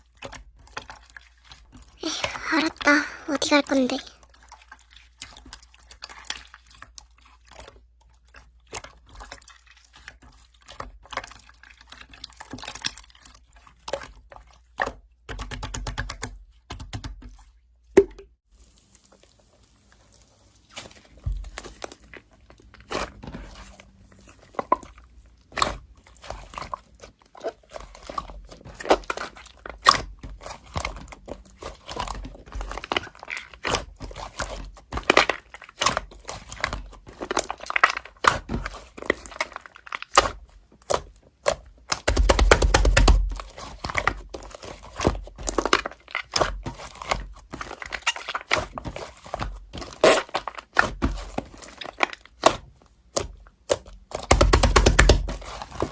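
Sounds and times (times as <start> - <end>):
slime squelching and popping: 0.0 - 55.9.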